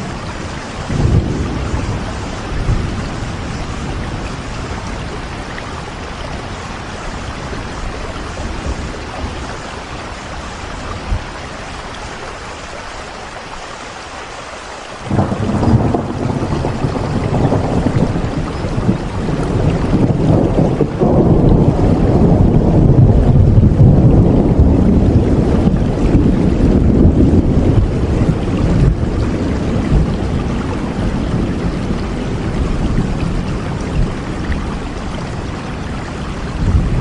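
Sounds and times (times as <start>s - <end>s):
thunder rumbling: 0.0s - 11.4s, 15.0s - 37.0s
steady rain: 0.0s - 37.0s.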